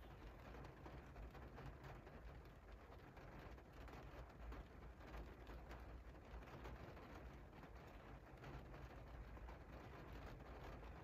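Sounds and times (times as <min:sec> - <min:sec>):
rain pattering on window: 0:00.0 - 0:11.0.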